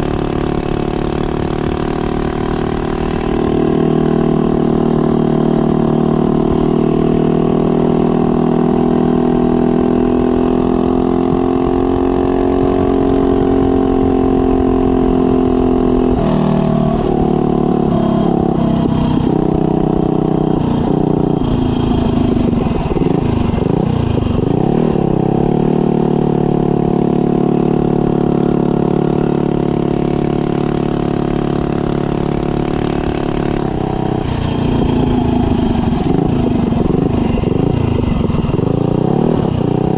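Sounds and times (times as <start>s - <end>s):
minibike engine running: 0.0s - 8.6s, 16.2s - 39.9s.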